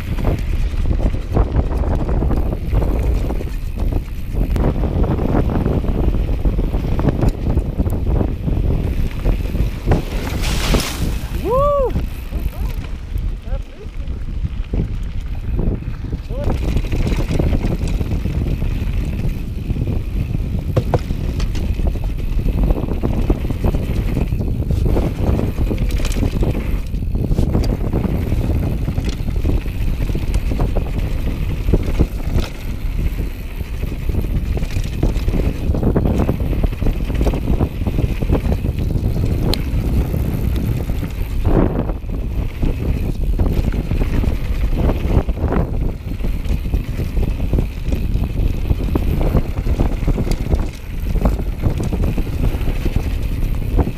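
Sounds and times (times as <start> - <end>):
bike chain and suspension clattering: 0.0 - 53.9
bike tyres crunching over stones: 0.0 - 53.9
wind buffeting microphone: 0.0 - 53.9.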